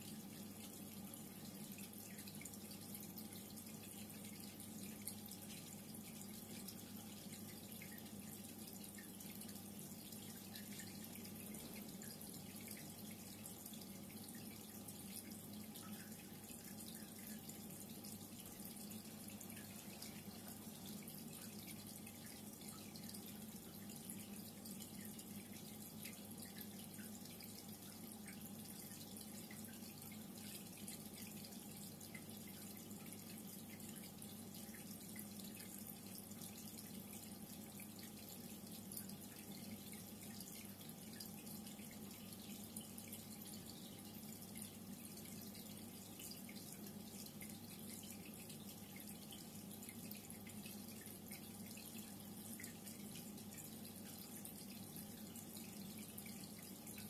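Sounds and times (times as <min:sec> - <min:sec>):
water trickling and dripping: 0:00.0 - 0:57.0.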